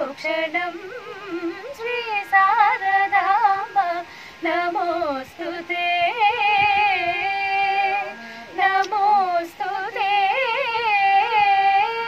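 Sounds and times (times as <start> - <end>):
women singing devotional song: 0.0 - 12.0.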